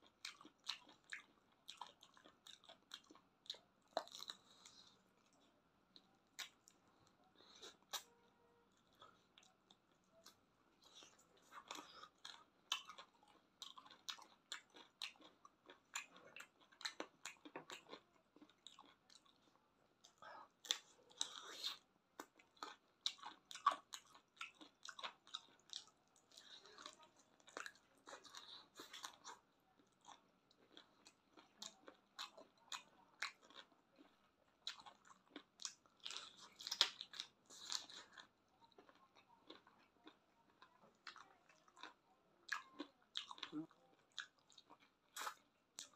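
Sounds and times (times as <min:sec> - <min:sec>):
person chewing wet smacks: 0:00.0 - 0:05.4, 0:06.0 - 0:08.1, 0:08.7 - 0:45.9.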